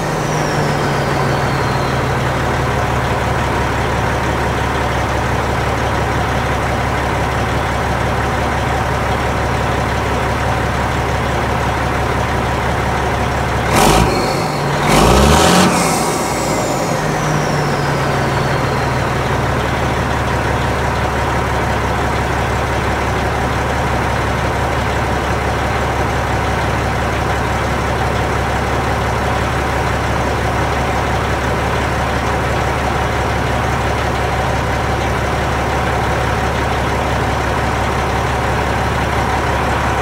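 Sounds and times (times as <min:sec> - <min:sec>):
truck diesel engine idling: 0:00.0 - 0:40.0.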